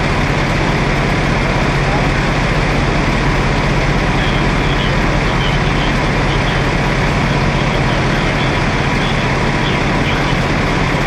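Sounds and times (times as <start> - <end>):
fire engine running: 0.0 - 11.0.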